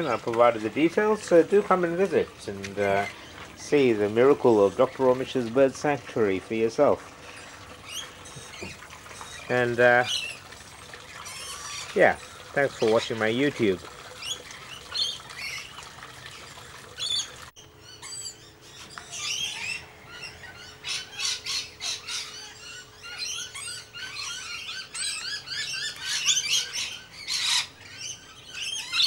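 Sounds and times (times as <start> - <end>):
lorikeets screeching and chattering: 0.0 - 15.8, 16.9 - 29.0.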